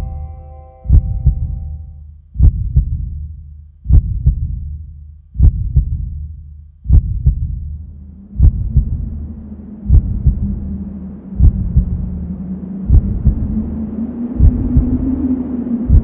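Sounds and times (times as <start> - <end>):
low hum: 0.0 - 16.0
heartbeat thumps: 0.9 - 13.8, 14.4 - 15.3.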